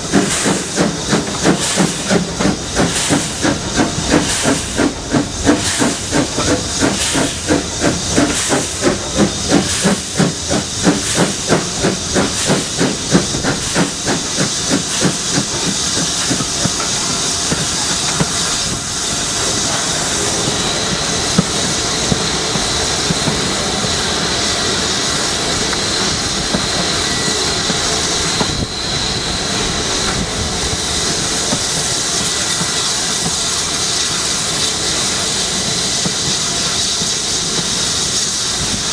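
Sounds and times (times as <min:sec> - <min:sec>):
hiss of steam: 0:00.0 - 0:38.9
steam locomotive exhaust beats: 0:00.0 - 0:38.9.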